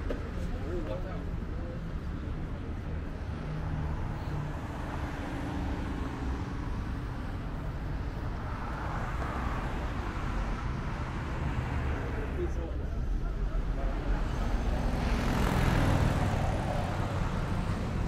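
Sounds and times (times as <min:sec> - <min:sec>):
cars passing rumble: 0:00.0 - 0:18.0.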